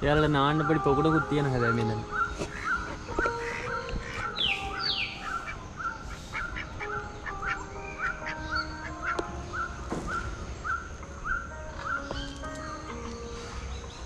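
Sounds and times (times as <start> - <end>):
birds chirping: 0.0 - 14.0
higher downward sweeping bird calls: 0.0 - 14.0.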